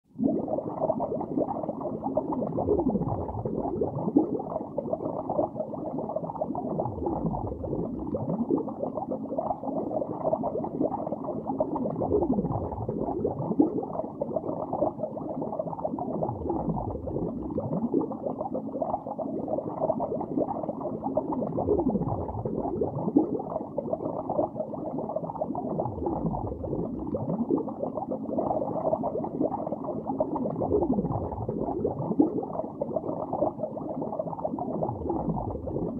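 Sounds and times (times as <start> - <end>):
underwater bubbling: 0.1 - 35.9.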